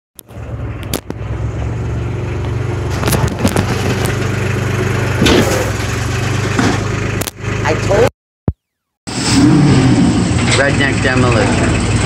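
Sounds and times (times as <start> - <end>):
tractor engine running: 0.2 - 8.1, 10.0 - 12.0.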